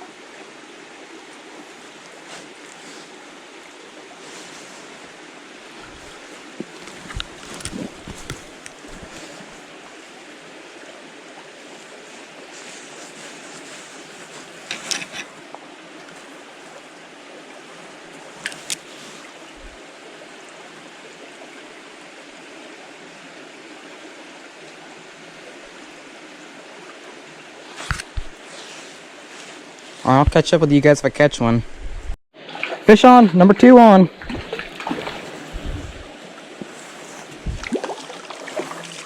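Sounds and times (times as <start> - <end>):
small stream flowing: 0.0 - 30.9, 32.3 - 39.0.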